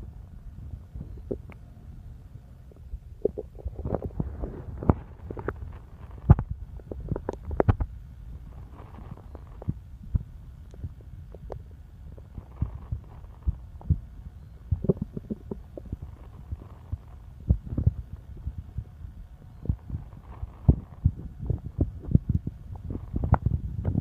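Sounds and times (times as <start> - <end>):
stomach gurgling: 1.0 - 1.6, 2.6 - 24.0.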